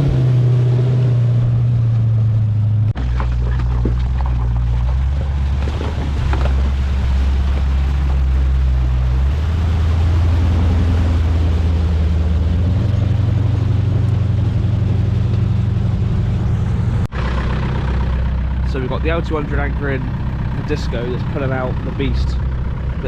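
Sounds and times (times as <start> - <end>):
off-road vehicle engine under load: 0.0 - 23.0.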